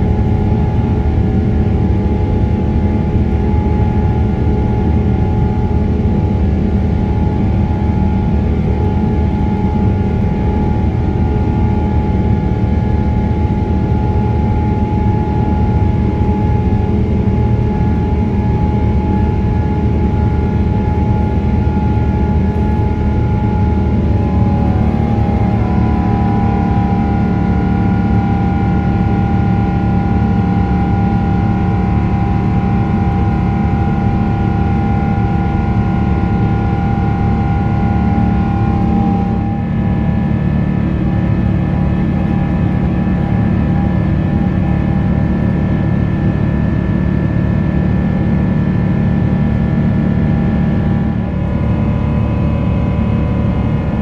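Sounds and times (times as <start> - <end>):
jet engine roar: 0.0 - 54.0.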